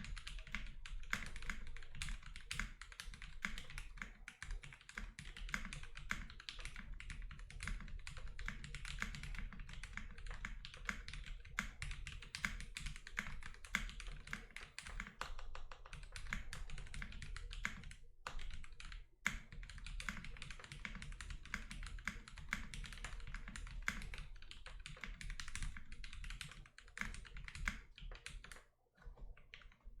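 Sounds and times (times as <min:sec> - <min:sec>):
mechanical keyboard typing: 0:00.0 - 0:29.8.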